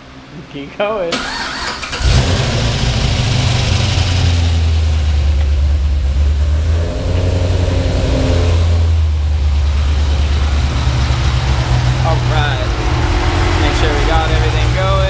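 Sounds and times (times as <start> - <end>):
car engine running loud: 1.2 - 15.0.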